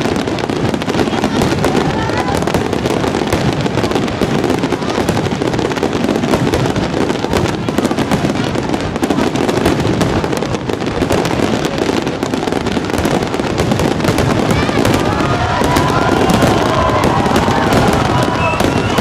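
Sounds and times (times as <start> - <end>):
fireworks barrage bangs and crackles: 0.0 - 19.0.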